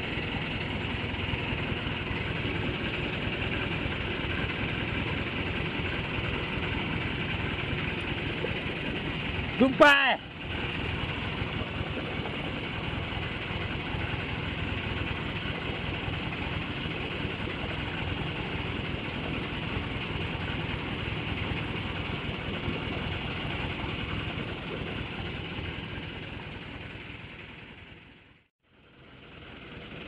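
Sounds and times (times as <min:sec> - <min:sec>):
boat engine idling: 0:00.0 - 0:30.0
water noise: 0:00.0 - 0:30.0
wind: 0:00.0 - 0:30.0.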